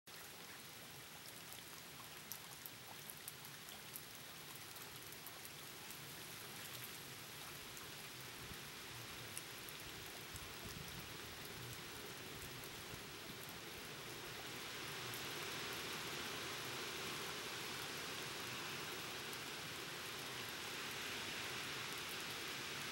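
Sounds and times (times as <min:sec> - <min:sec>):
rain hissing: 0:00.6 - 0:22.9.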